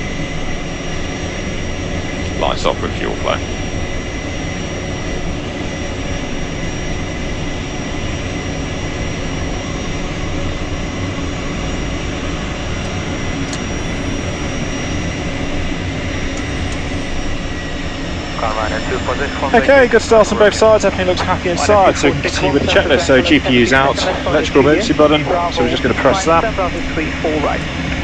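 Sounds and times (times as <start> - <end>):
jet engine whine and rumble: 0.0 - 28.0.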